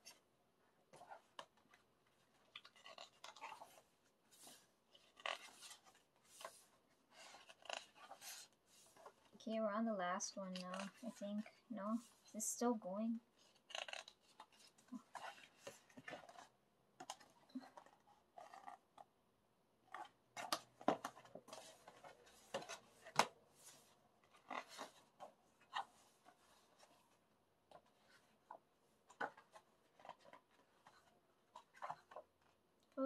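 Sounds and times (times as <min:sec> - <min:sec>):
book pages rustling: 0:00.9 - 0:09.4, 0:10.2 - 0:12.4, 0:13.2 - 0:19.1, 0:19.8 - 0:33.0.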